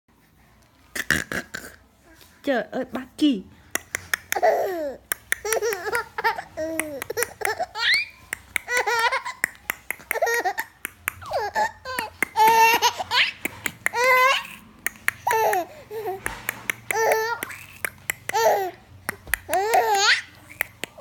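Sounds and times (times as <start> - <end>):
baby babbling and laughing: 4.1 - 21.0.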